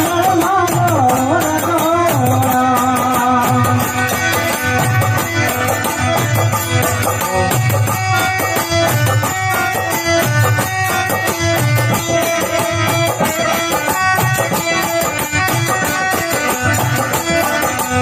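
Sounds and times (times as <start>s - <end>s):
fast high percussion: 0.0s - 18.0s
steady drum beat: 0.0s - 18.0s.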